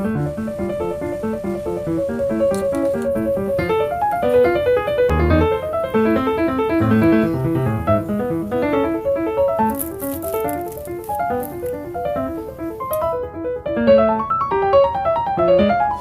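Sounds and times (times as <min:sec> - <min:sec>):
faint crackles: 0:00.0 - 0:14.0
piano music: 0:00.0 - 0:16.0.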